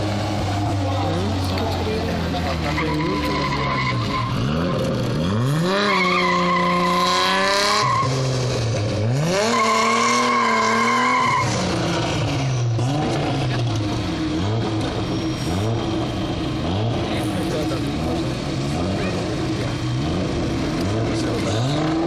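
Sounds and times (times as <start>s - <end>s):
rally car engine revving: 0.0s - 22.0s
tyres skidding: 0.0s - 22.0s.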